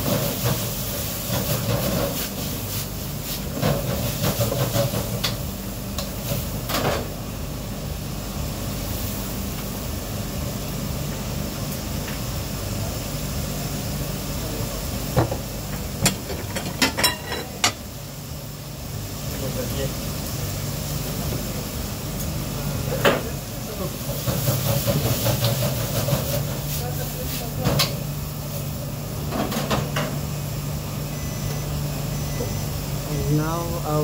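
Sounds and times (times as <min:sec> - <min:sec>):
hum and hiss of kitchen equipment: 0:00.0 - 0:34.0.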